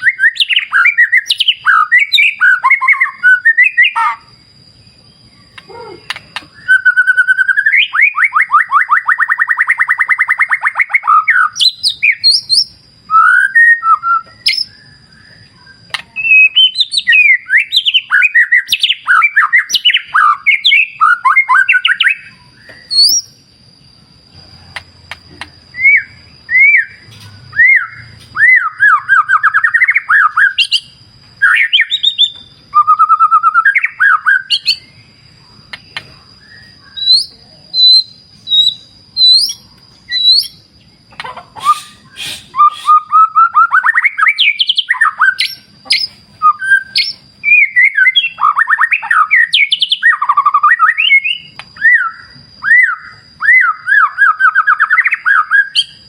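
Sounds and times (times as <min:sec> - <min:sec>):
songbird whistling song: 0:00.0 - 0:56.0.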